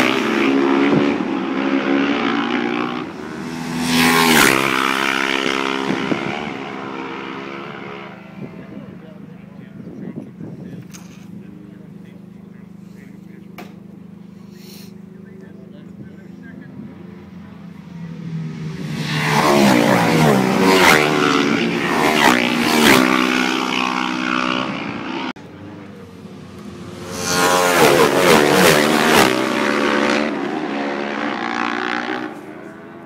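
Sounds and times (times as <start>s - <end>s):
motorcycles passing at full throttle: 0.0s - 33.0s.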